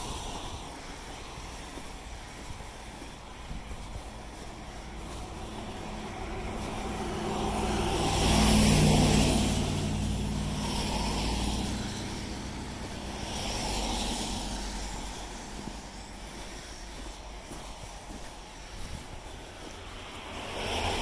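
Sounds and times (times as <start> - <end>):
car passing: 0.0 - 21.0
truck passing: 0.0 - 21.0.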